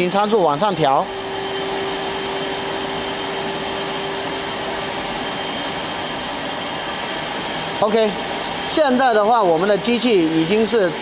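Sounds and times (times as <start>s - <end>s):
blower air rush with high whine: 0.0s - 11.0s.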